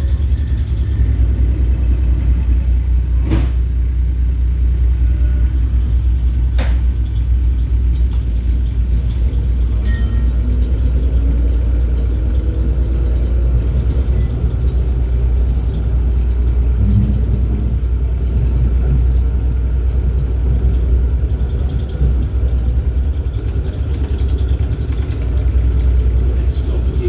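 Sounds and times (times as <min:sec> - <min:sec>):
tram low rumble: 0:00.0 - 0:27.0.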